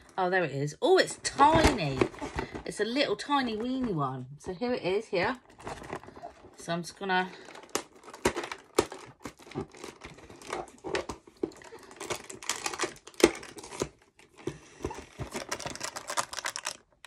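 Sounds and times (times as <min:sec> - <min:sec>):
cardboard clicking and crinkling: 0:01.2 - 0:04.6, 0:05.2 - 0:17.0.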